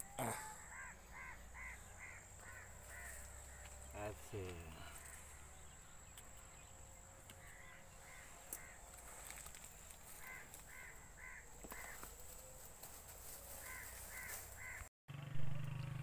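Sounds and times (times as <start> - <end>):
bird calling faintly: 0.0 - 14.9.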